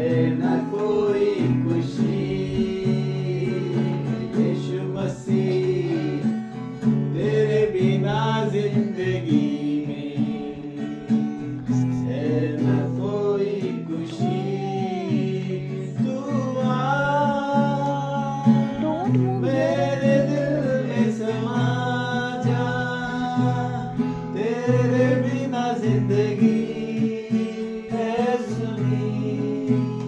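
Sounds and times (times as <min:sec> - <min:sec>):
acoustic guitar: 0:00.0 - 0:30.0
men singing: 0:00.0 - 0:30.0.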